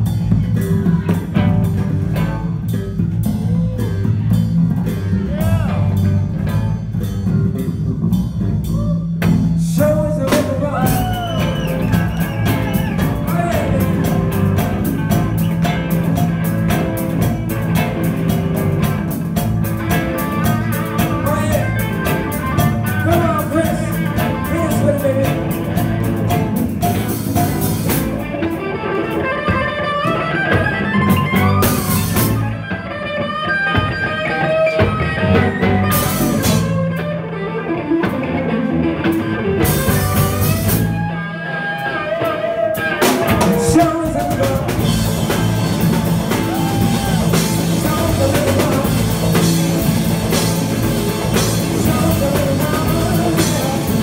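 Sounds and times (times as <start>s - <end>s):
low bass: 0.0s - 28.6s, 30.8s - 32.8s, 34.8s - 41.4s, 43.1s - 54.0s
drum kit with cymbals: 0.0s - 37.2s, 39.0s - 41.2s, 42.2s - 54.0s
electric guitar lead lines: 0.0s - 54.0s.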